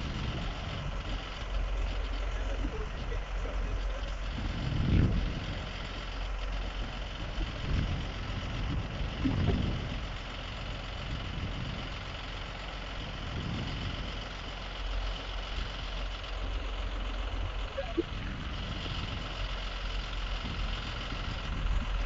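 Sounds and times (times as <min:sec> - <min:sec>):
low rumbles: 0:00.0 - 0:22.0
truck engine idling: 0:00.0 - 0:22.0.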